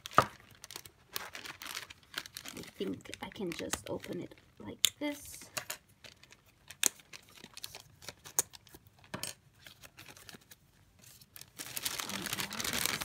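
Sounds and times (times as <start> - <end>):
wrapping crinkling and rustling: 0.0 - 13.0.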